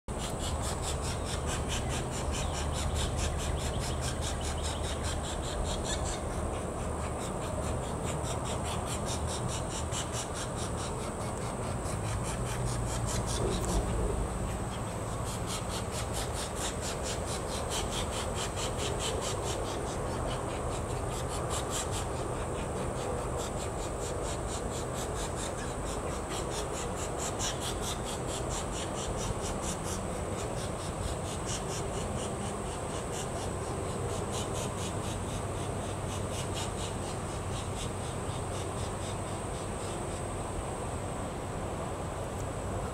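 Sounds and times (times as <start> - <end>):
insects buzzing high-pitched: 0.1 - 41.8
rapid pulsing insect chirp: 0.1 - 42.9.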